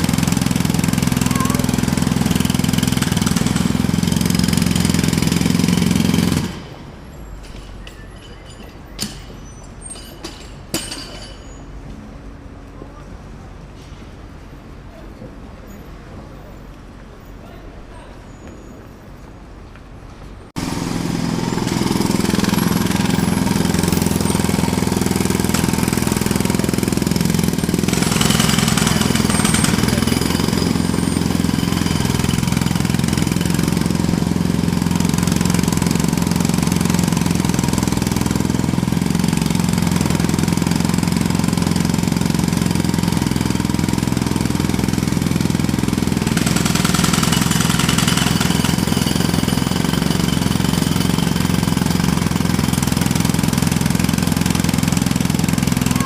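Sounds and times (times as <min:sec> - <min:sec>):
jackhammer hammering: 0:00.0 - 0:11.5, 0:20.6 - 0:56.0.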